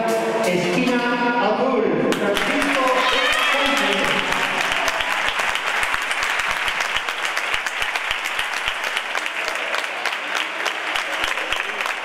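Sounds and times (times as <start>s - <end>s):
spectators applauding: 2.1s - 12.0s.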